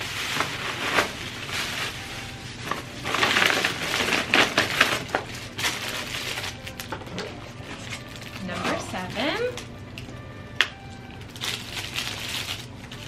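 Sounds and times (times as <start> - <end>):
gift wrapping rustling: 0.0 - 13.0.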